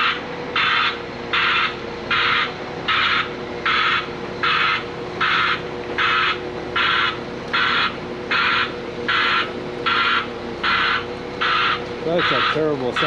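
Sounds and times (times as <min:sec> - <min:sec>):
backup alarm beeping: 0:00.0 - 0:13.0
engine hum: 0:00.0 - 0:13.0.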